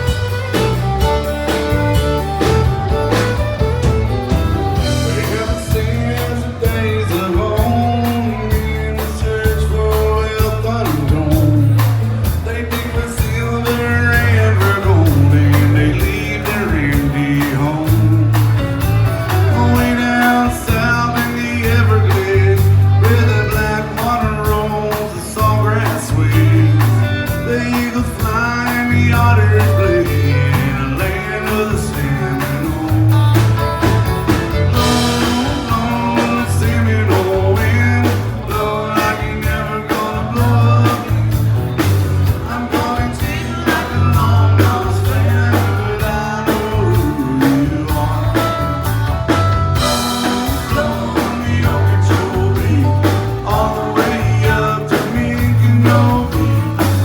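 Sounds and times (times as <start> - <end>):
bass line: 0.0 - 57.0
country rock band music: 0.0 - 57.0
person singing: 0.0 - 57.0
steady drum beat: 0.0 - 57.0.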